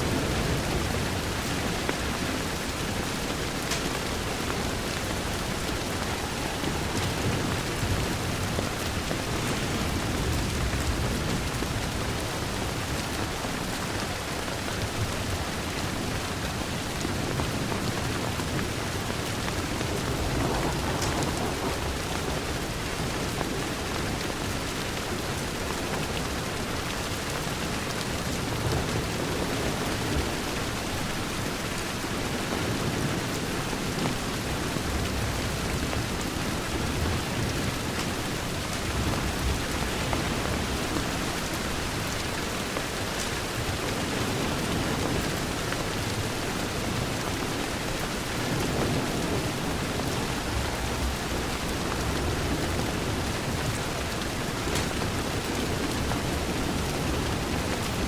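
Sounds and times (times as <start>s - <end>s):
rain against a window: 0.0s - 58.0s.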